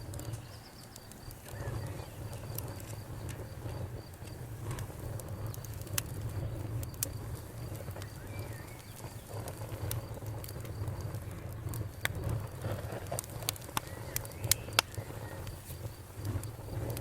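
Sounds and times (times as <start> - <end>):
bonfire crackling and popping: 0.0 - 17.0
faint cricket trill: 0.0 - 17.0.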